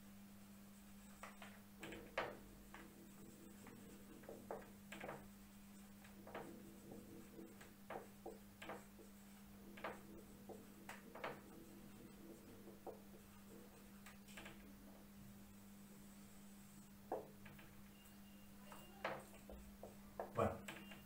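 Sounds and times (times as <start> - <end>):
steady low hum: 0.0 - 21.0
marker squeaking on whiteboard: 1.0 - 14.6, 16.1 - 21.0.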